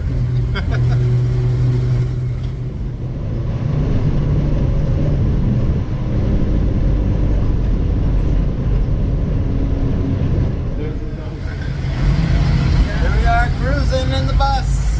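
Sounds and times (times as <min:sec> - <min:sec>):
bus engine hum: 0:00.0 - 0:14.9
road noise: 0:00.0 - 0:14.9.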